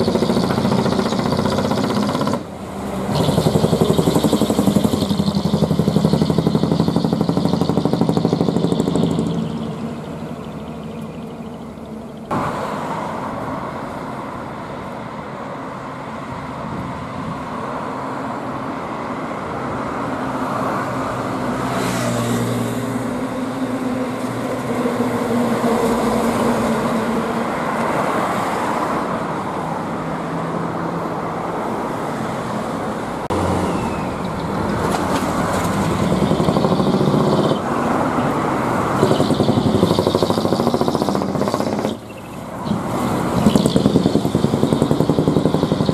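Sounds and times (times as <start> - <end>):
dump trucks driving past: 0.0 - 45.9
tyre and road noise: 0.0 - 45.9.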